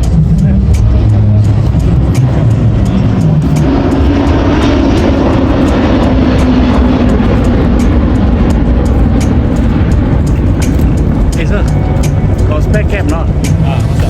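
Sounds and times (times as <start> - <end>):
aircraft engine roar: 0.0 - 14.0.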